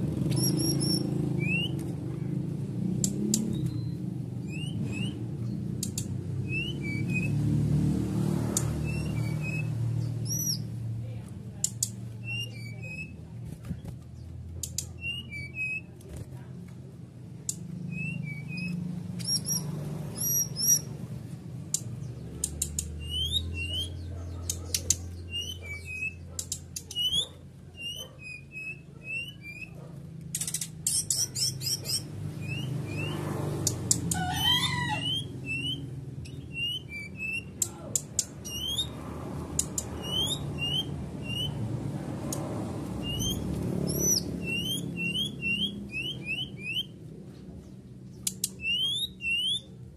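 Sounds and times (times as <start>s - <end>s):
songbird chirping: 0.1s - 49.9s.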